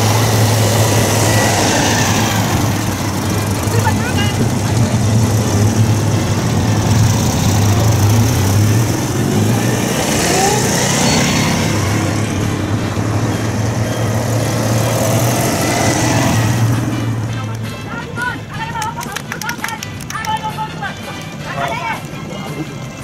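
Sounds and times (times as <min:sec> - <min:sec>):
cars driving past droning: 0:00.0 - 0:18.5.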